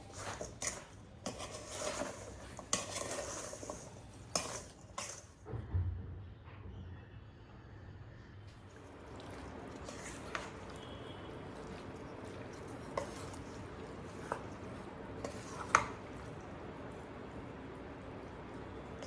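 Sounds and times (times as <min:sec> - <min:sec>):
soft wet food handling: 0:00.0 - 0:05.4, 0:08.5 - 0:19.0.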